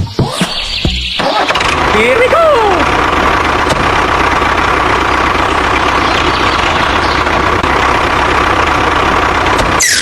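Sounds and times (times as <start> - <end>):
vehicle engine idling: 0.7 - 10.0.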